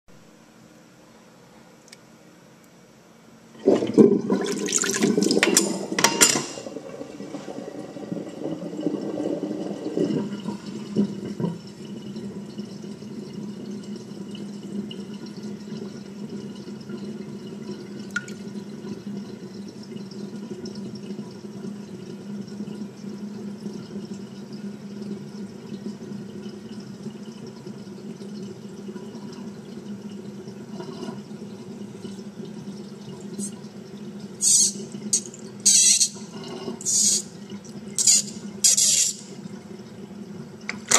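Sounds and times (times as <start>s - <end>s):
water gurgling down drain: 3.5s - 40.9s.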